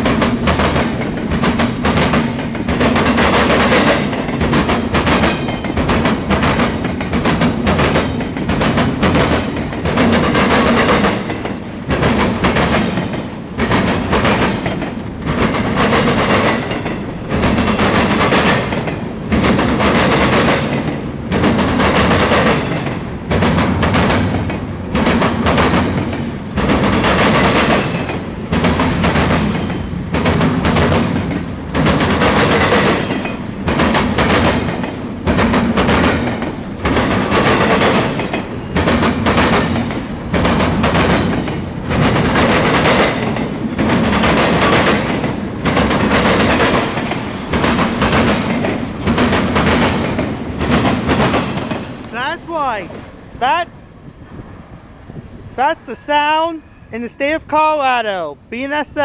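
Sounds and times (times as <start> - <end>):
wheels clicking over rail joints: 0.0 - 52.2
freight train rumbling past: 0.0 - 59.0.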